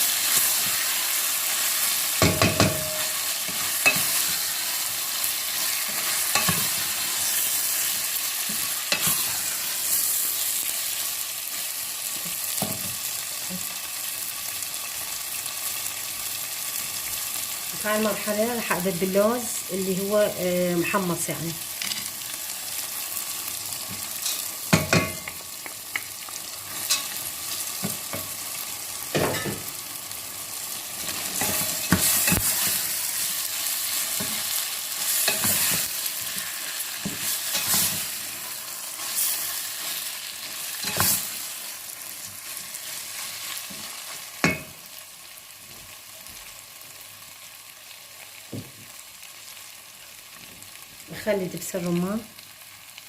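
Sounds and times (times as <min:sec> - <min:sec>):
food sizzling in a pot: 0:00.0 - 0:53.0.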